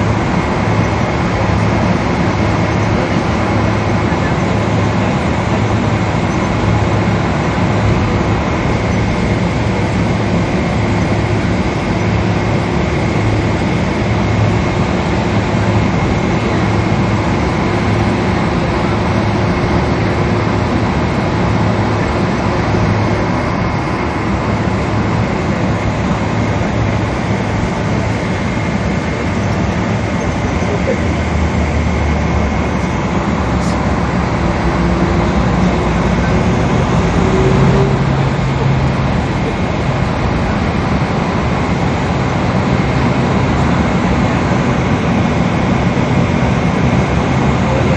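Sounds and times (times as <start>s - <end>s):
airplane cabin engine noise: 0.0s - 47.9s
thin steady whine: 0.0s - 47.9s.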